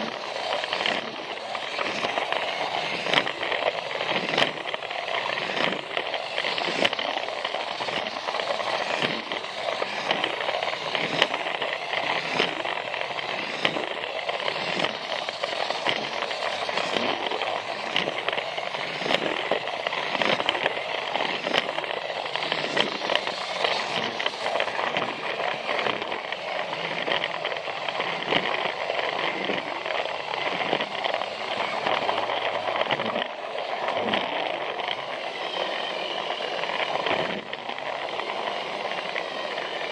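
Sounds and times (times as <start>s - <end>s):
toy train motor rattling on track: 0.0s - 39.9s.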